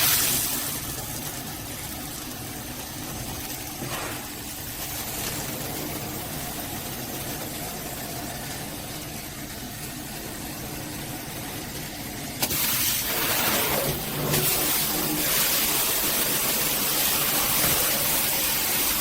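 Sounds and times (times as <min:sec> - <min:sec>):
shower water spraying: 0:00.0 - 0:19.0.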